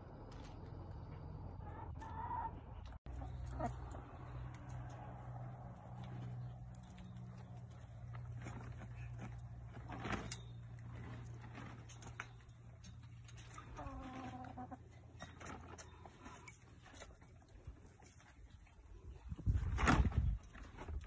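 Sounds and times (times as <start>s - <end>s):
hens pecking and scratching: 0.1s - 21.0s.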